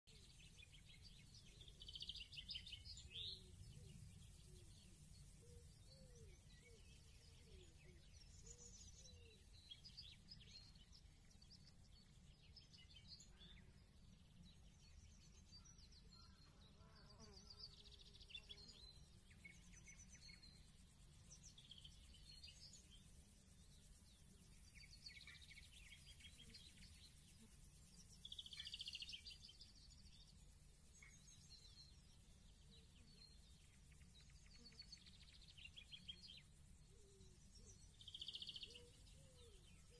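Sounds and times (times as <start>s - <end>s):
chirps and buzzy trills: 0.1s - 39.9s.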